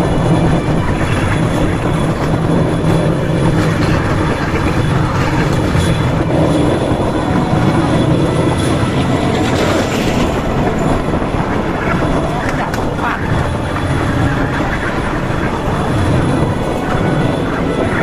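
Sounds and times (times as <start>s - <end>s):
wheels rattling on track: 0.0s - 18.0s.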